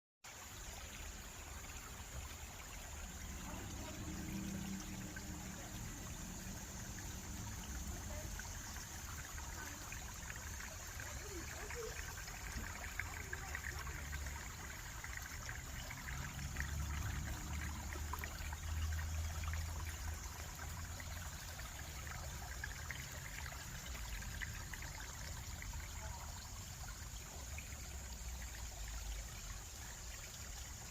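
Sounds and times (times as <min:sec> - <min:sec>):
stream trickling over stones: 0:00.2 - 0:30.9.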